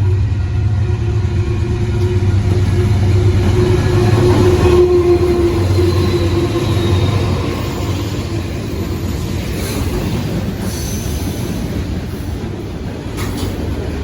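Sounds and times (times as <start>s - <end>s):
train rolling past: 0.0s - 14.0s.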